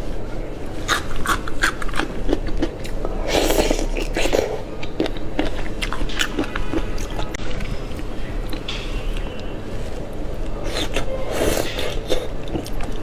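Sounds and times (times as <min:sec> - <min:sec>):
chewing and mouth clicks: 0:00.9 - 0:09.5, 0:10.6 - 0:13.0.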